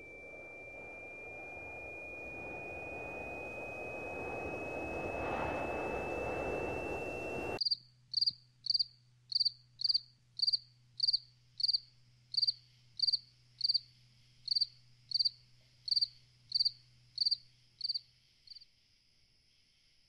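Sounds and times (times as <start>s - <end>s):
faint low hum: 0.0s - 18.6s
cricket chirping: 0.0s - 20.0s.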